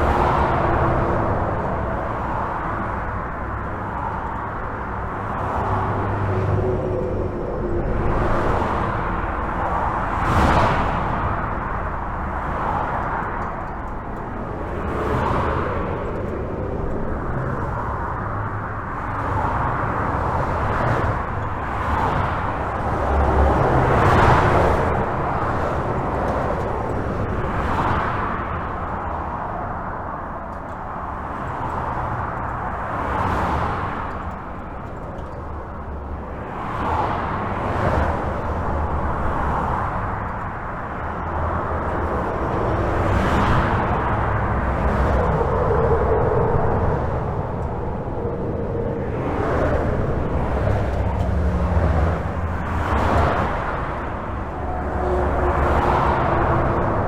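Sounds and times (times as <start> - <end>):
highway traffic rush: 0.0 - 57.0.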